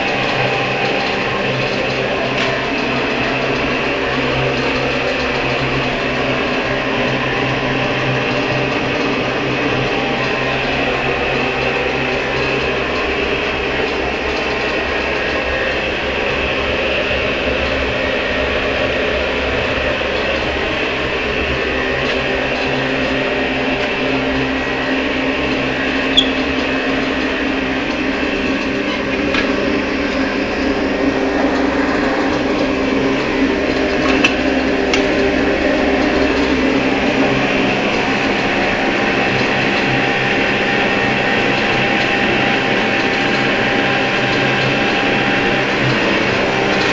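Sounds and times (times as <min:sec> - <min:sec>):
furnace mechanical hum: 0:00.0 - 0:46.9.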